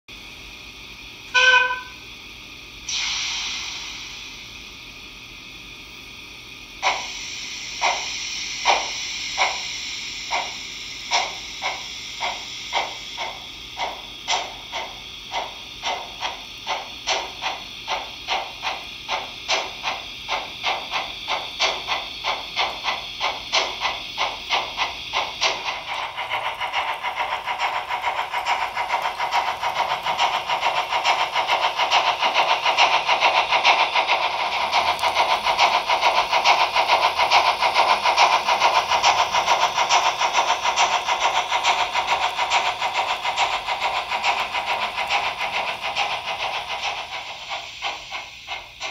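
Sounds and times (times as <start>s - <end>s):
model steam locomotive chuffing: 1.2s - 2.1s, 2.8s - 48.9s.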